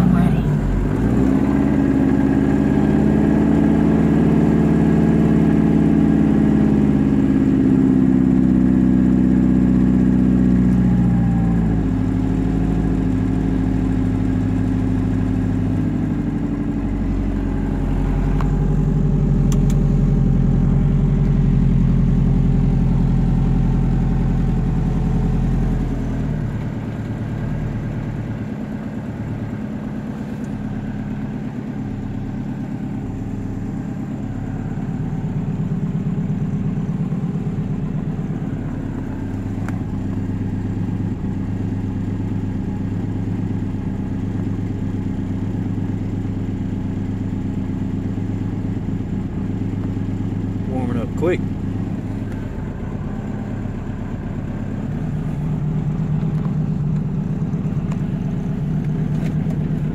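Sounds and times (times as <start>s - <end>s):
car engine fast idling: 0.0s - 59.9s.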